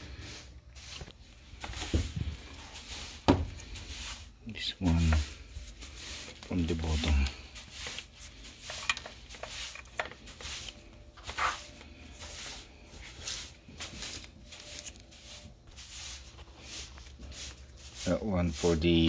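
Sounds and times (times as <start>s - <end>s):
rubbing and rustling handling: 0.0s - 19.0s.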